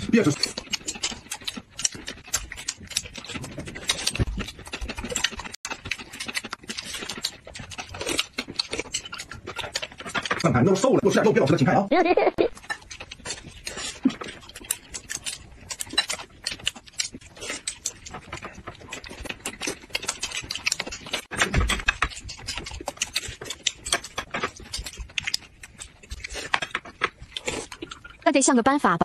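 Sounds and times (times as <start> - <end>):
close chewing with mouth clicks: 0.0 - 11.7, 12.5 - 28.5.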